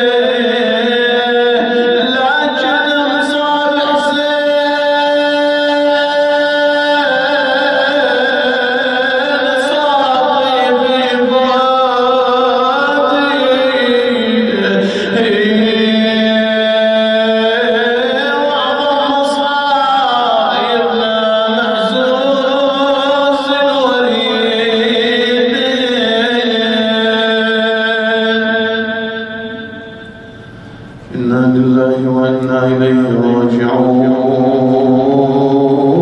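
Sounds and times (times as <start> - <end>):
man chanting: 0.0 - 36.0.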